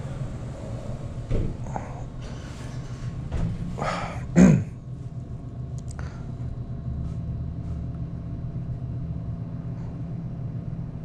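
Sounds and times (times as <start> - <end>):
low rumble and hum: 0.0 - 11.0.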